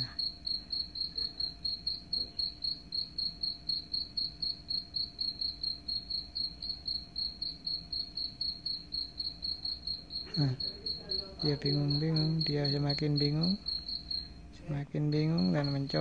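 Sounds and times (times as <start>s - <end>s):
recorded cricket chirping: 0.0s - 16.0s.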